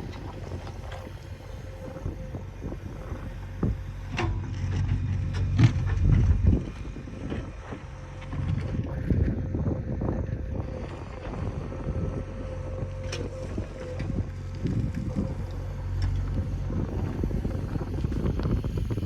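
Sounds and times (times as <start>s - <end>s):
engine whine: 0.0s - 19.0s
heavy machinery diesel engine: 0.0s - 19.0s
wind buffeting microphone: 0.0s - 19.0s.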